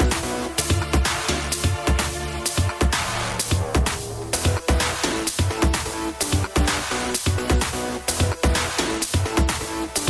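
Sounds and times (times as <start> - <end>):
electronic music with drum beat: 0.0 - 10.0.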